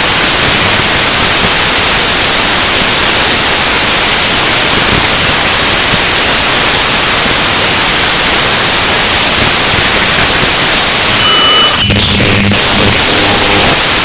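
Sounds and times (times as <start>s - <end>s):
harsh static noise music: 0.0s - 14.0s.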